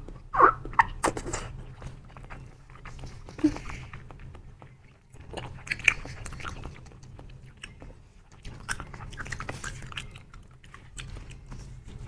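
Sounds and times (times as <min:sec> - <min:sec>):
wet chewing mouth clicks: 0:00.7 - 0:11.8.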